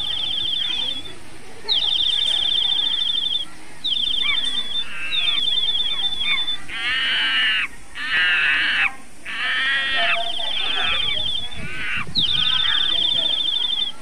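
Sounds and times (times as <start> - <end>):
harsh rasping bird calls: 0.0 - 14.0
high-pitched bird trill: 0.0 - 14.0.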